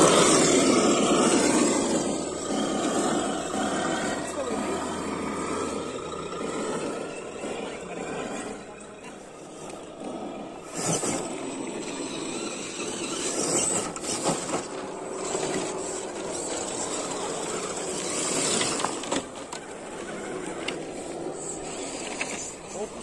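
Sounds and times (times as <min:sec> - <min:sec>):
motor and gear whir: 0:00.0 - 0:23.0.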